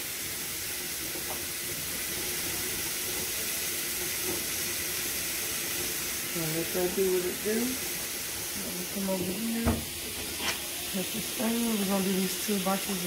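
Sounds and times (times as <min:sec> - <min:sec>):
sausage and onions sizzling: 0:00.0 - 0:13.0.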